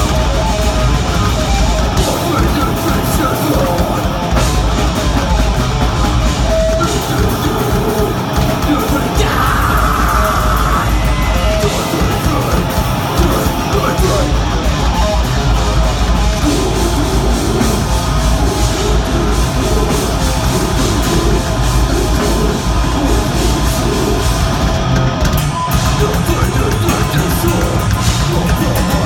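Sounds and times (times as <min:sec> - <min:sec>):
distorted guitars: 0:00.0 - 0:29.0
drums: 0:00.0 - 0:29.0
vocals: 0:00.0 - 0:29.0.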